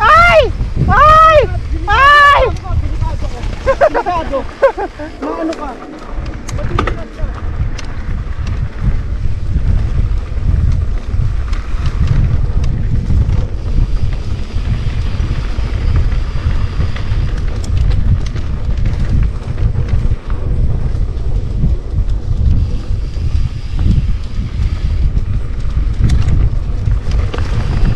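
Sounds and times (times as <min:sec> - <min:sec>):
bike clicks and rattles: 0:00.0 - 0:27.9
bike rumbling over trail: 0:00.0 - 0:27.9
wind buffeting microphone: 0:00.0 - 0:27.9.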